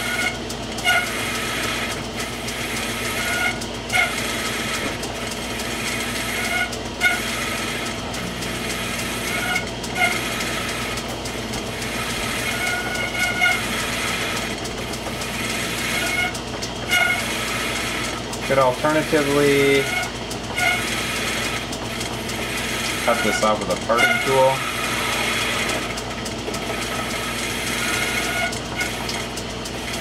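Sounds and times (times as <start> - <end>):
lathe machine hum: 0.0 - 30.0
lathe tool cutting metal: 0.0 - 30.0.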